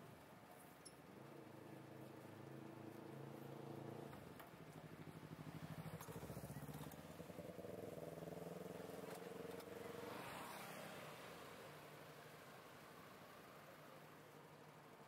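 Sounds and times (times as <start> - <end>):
faint car engine: 0.0 - 15.0.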